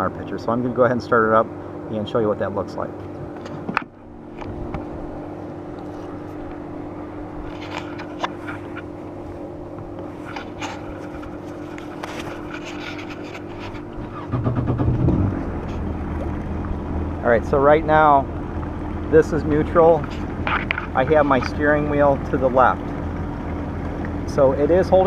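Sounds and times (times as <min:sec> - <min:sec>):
jet ski engine idling: 0:00.0 - 0:25.0.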